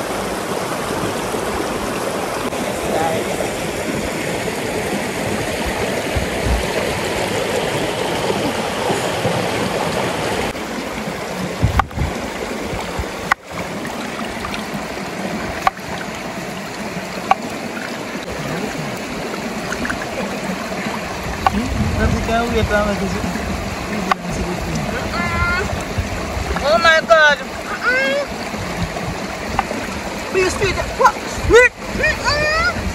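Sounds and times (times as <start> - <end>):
river water rushing and gurgling: 0.0 - 32.9.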